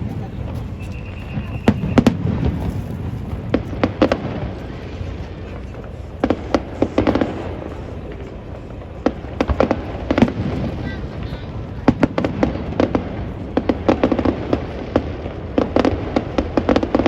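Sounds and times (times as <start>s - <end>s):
fireworks cracking and banging: 0.0s - 17.0s
steady low rumble: 0.0s - 17.0s.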